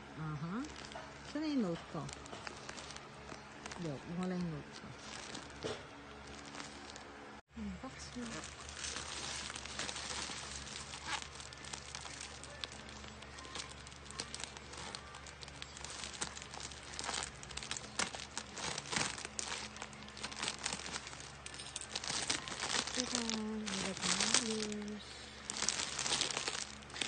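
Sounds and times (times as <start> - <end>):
packaging crinkling: 0.6 - 7.1, 8.0 - 27.0.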